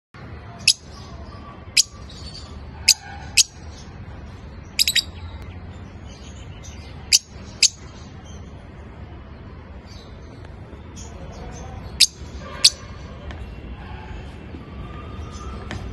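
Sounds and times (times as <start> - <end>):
lovebirds chirping: 0.5 - 13.4.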